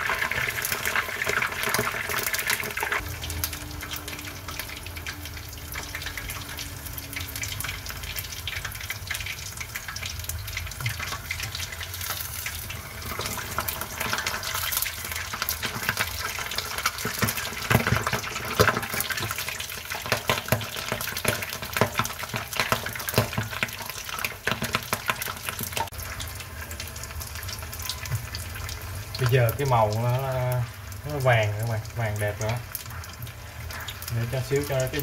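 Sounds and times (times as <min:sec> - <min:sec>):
meat frying in hot oil: 0:00.0 - 0:35.0
oil popping and crackling: 0:00.0 - 0:35.0.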